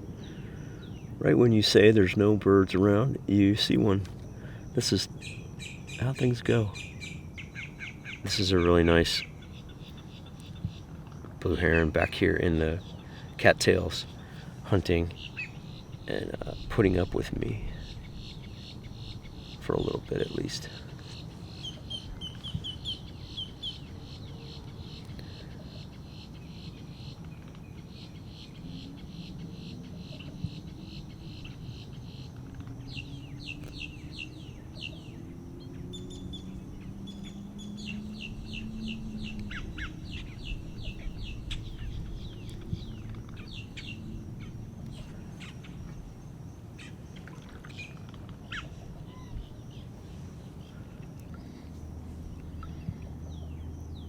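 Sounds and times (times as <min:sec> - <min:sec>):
low background rumble: 0:00.0 - 0:54.0
small birds chirping and trilling: 0:00.0 - 0:54.0.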